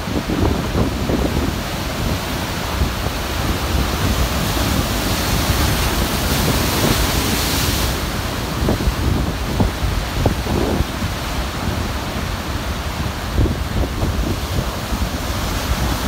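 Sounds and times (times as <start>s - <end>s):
rough surf rushing: 0.0s - 16.0s
wind buffeting microphone: 0.0s - 16.0s.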